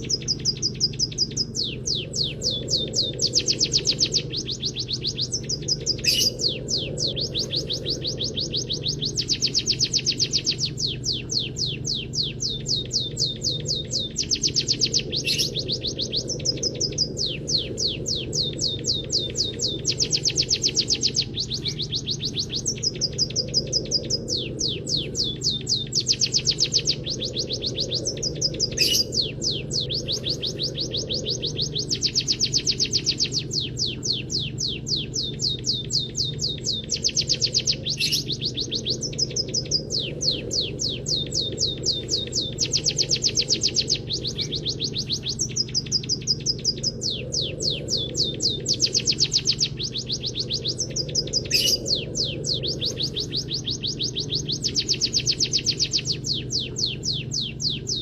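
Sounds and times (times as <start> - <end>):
birds chirping rapidly: 0.0 - 58.0
steady low hum: 0.0 - 58.0.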